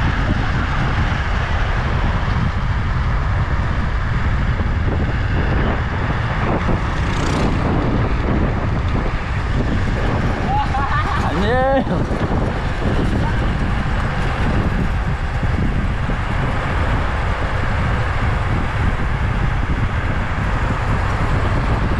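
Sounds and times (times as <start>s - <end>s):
minibike engine: 0.0s - 21.9s
wind rushing over microphone: 0.0s - 21.9s.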